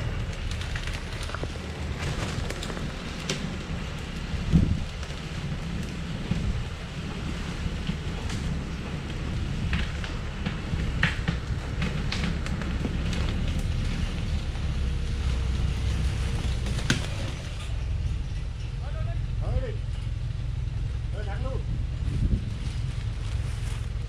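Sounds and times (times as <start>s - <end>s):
branches crackling: 0.0s - 24.0s
diesel truck engine running: 0.0s - 24.0s
wind rumbling on microphone: 0.0s - 24.0s.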